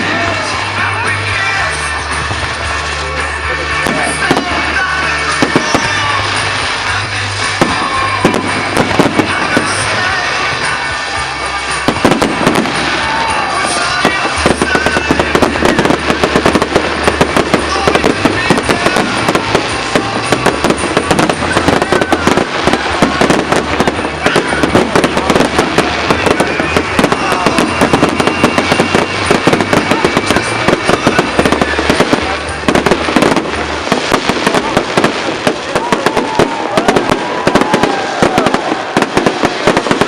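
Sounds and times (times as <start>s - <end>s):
fireworks crackling and banging: 0.0s - 40.0s.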